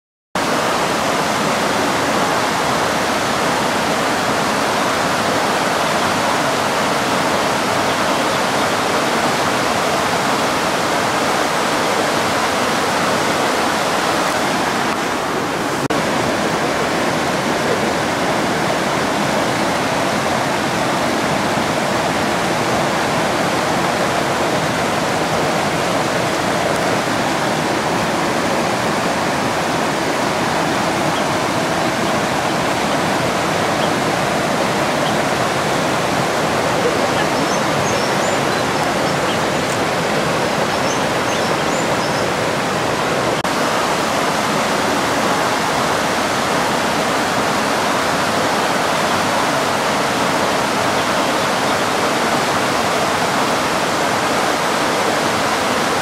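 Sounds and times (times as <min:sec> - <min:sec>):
waterfall rushing: 0:00.4 - 0:56.0.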